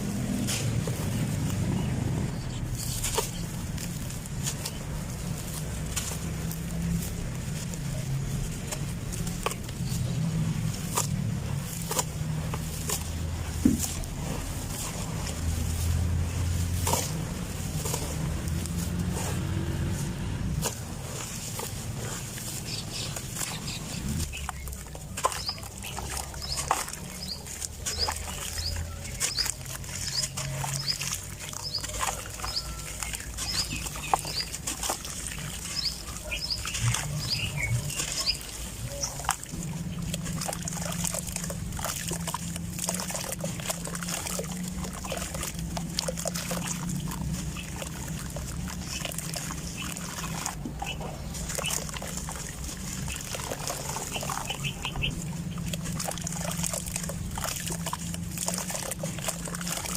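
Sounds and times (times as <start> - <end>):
cement chunks crunching by hand: 0.0 - 59.9.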